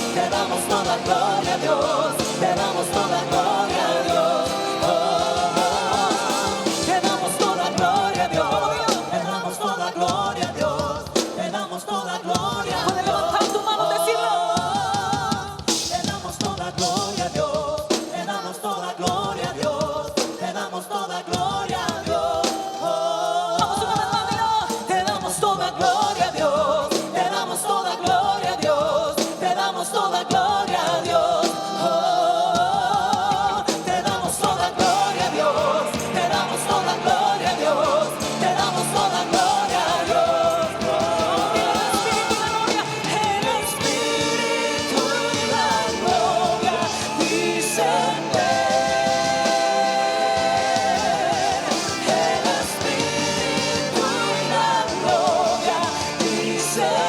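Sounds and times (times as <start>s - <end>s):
person singing: 0.0s - 19.8s, 23.3s - 57.0s
drums: 0.0s - 57.0s
worship band music: 0.0s - 57.0s.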